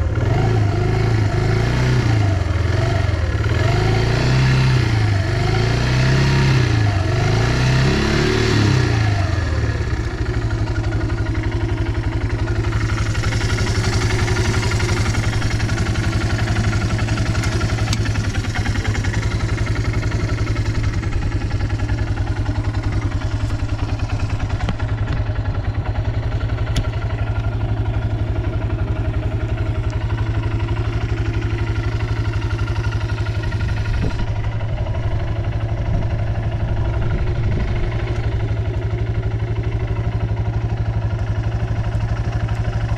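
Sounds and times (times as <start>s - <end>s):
quad engine revving and idling: 0.0s - 42.9s.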